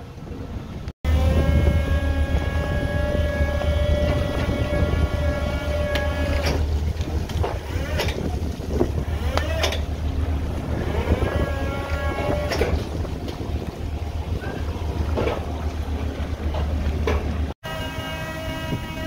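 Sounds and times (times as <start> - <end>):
boat engine and machinery hum: 0.0 - 19.0
sea wash: 0.0 - 19.0
wind: 0.0 - 19.0.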